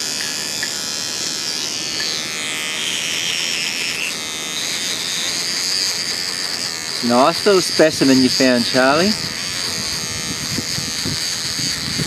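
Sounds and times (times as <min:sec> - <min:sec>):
electric toothbrush buzzing: 0:00.0 - 0:12.0.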